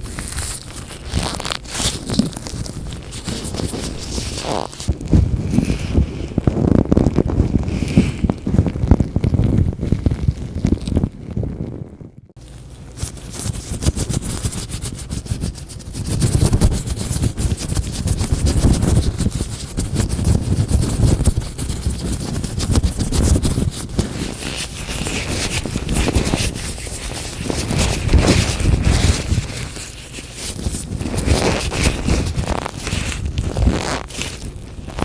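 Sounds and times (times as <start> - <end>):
latex gloves crackling rustle: 0.0 - 11.7, 12.4 - 35.0.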